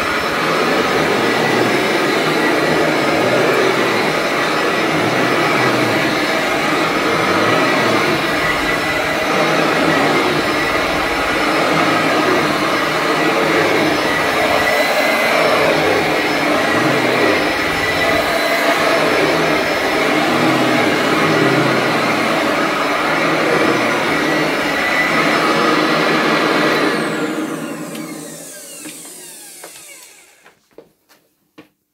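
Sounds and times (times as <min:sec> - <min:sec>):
upright vacuum cleaner running: 0:00.0 - 0:30.9.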